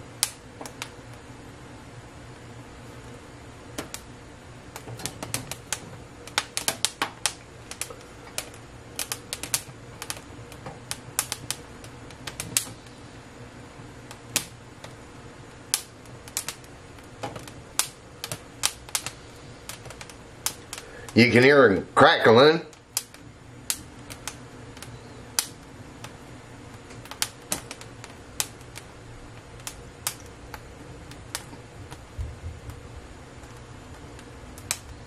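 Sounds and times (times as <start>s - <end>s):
peppers crackling and popping: 0.0s - 1.3s, 3.0s - 13.0s, 14.0s - 21.8s, 22.4s - 35.0s
gas burner rush: 0.0s - 35.0s.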